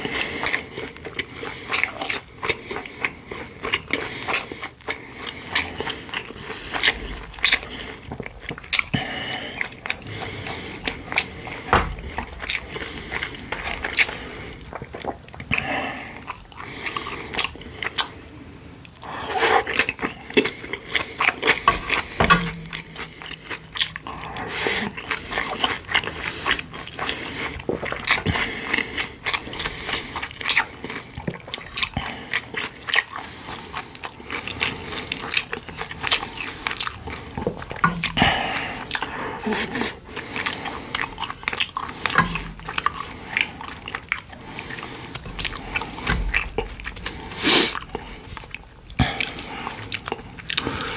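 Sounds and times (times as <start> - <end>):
wet chewing and biting: 0.0 - 50.9.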